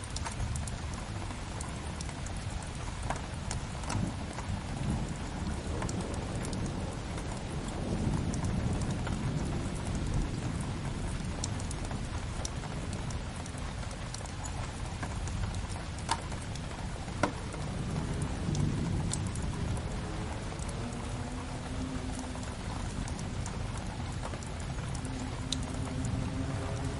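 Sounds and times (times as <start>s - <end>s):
steady rain: 0.0s - 26.9s.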